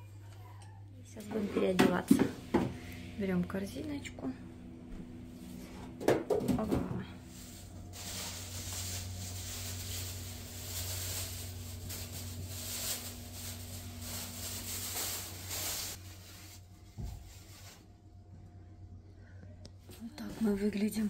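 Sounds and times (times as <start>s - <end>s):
low hum: 0.0s - 20.9s.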